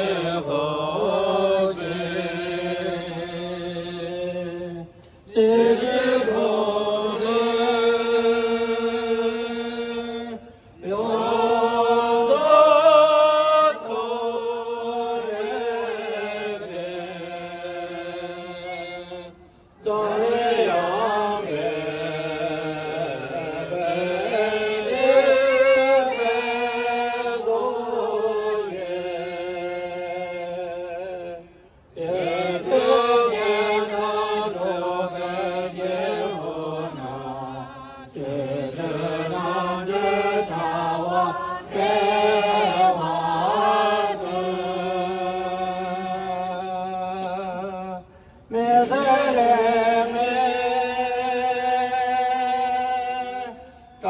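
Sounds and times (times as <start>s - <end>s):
prayer chanting: 0.0s - 53.6s.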